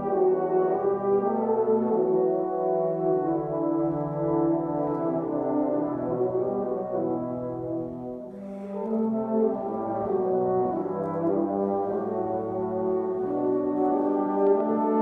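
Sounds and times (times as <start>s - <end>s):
brass ensemble playing chords: 0.0s - 15.0s.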